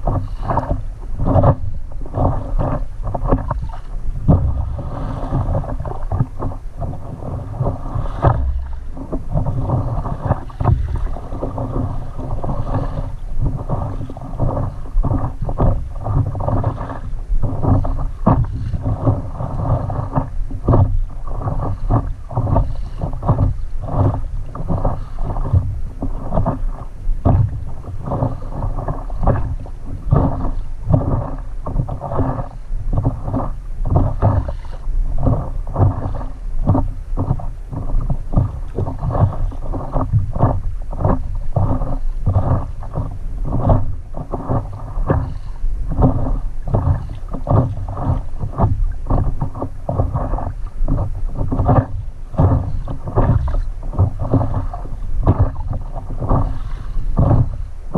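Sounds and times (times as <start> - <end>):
water splashing against paddleboard: 0.0 - 57.9
wind rumble on microphone: 0.0 - 57.9.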